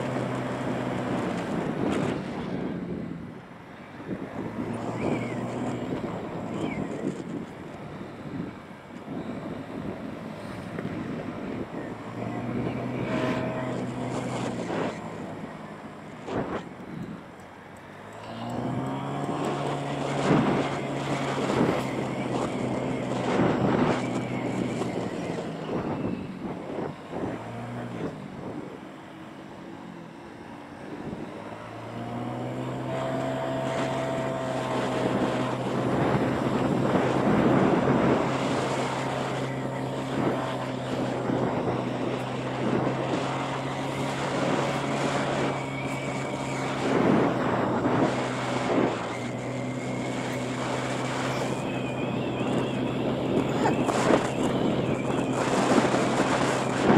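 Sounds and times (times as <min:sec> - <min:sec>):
small motorbike engine: 0:00.0 - 0:56.9.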